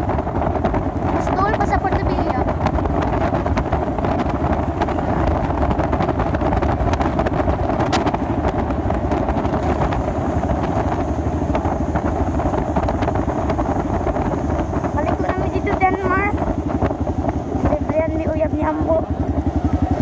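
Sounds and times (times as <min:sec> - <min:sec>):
motorcycle engine running: 0:00.0 - 0:20.0
road noise: 0:00.0 - 0:20.0
wind rush on microphone: 0:00.0 - 0:20.0.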